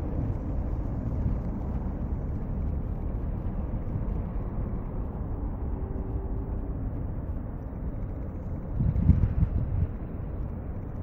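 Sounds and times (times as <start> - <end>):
jet engines low rumble: 0.0 - 11.0
wind buffeting microphone: 0.0 - 11.0.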